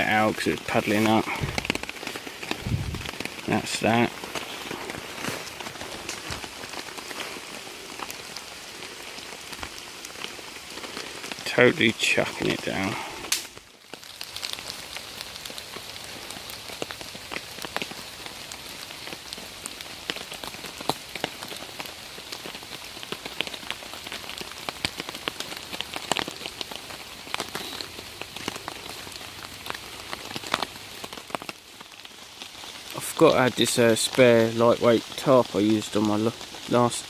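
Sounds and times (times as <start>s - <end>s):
heavy rain falling: 0.0s - 37.0s
raindrops pattering: 0.0s - 37.0s.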